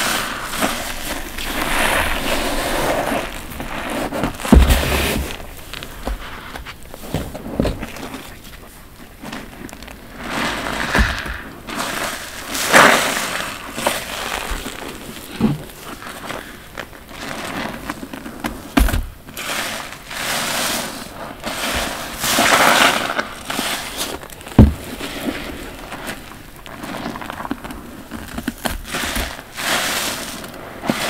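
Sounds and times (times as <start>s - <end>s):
foam crackling: 0.0s - 31.0s
sponges squelching water: 0.0s - 31.0s.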